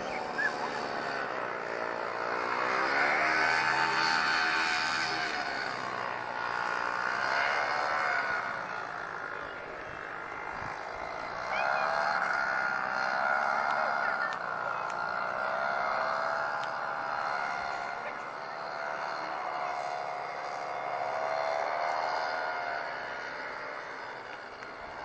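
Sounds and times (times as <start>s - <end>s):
paramotor engine buzzing overhead: 0.0s - 25.0s.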